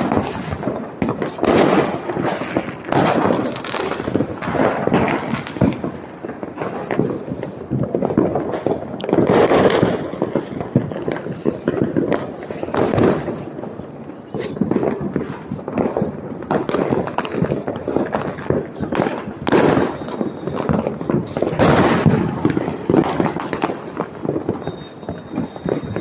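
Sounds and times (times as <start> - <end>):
firecrackers and fireworks banging: 0.0 - 26.0.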